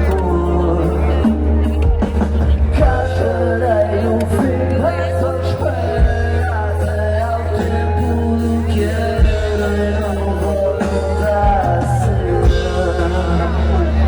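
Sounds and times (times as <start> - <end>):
band playing pop-rock song: 0.0 - 14.0
steady bass line: 0.0 - 14.0.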